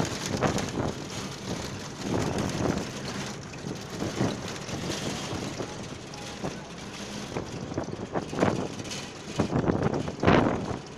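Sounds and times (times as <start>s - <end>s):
moving vehicle running noise: 0.0s - 10.9s
wind buffeting microphone: 0.0s - 10.9s.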